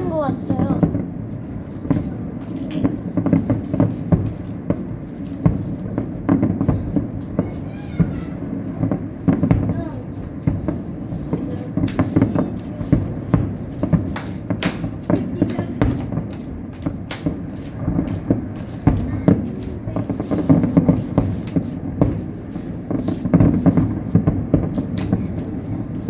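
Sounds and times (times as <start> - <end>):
crowd chatter: 0.0 - 26.0
fireworks bangs and crackles: 0.0 - 26.0.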